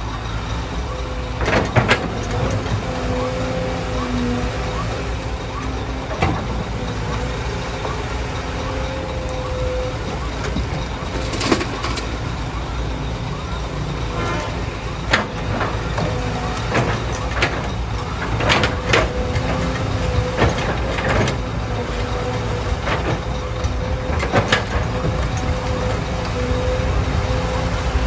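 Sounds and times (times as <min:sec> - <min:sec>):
diesel machinery running: 0:00.0 - 0:28.0
machinery whine: 0:00.0 - 0:28.0
metal clanks and knocks: 0:00.2 - 0:28.0.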